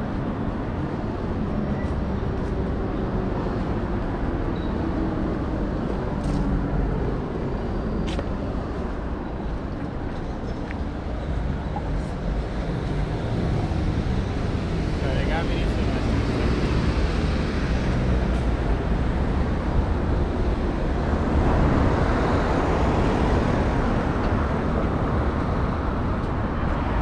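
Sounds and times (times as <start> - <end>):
passing cars rumble: 0.0 - 27.0.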